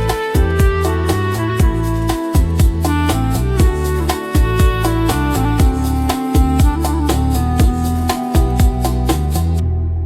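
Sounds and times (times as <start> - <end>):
deep house music: 0.0 - 10.0.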